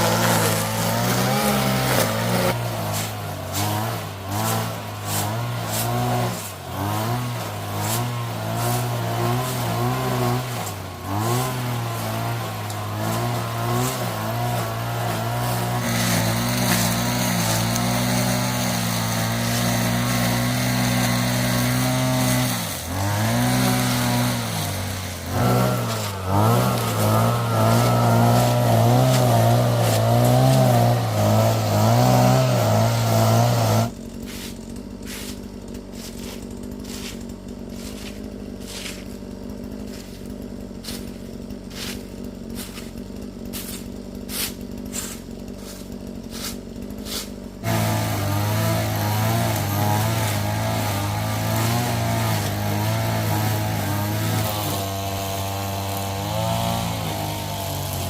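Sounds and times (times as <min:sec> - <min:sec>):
motor running: 0:00.0 - 0:58.0.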